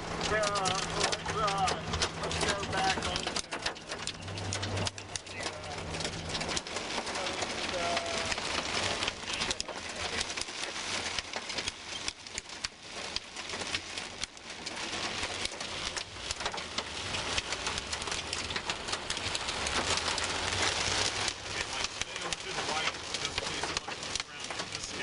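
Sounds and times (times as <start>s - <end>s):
heavy rain on car windshield: 0.0s - 25.0s
low vehicle rumble: 0.0s - 25.0s.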